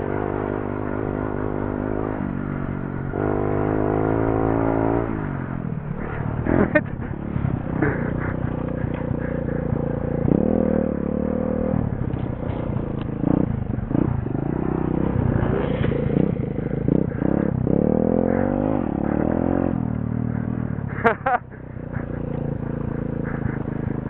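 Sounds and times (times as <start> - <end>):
small motorbike engine revving: 0.0 - 24.0.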